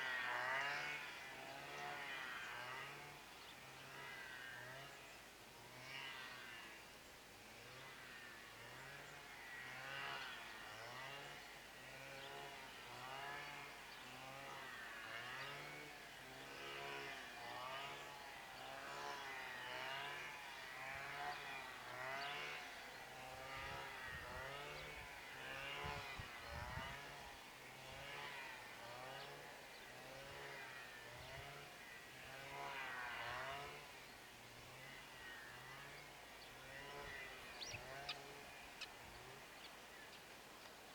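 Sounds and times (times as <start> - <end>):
brushcutter engine running: 0.0 - 4.9, 7.5 - 40.9.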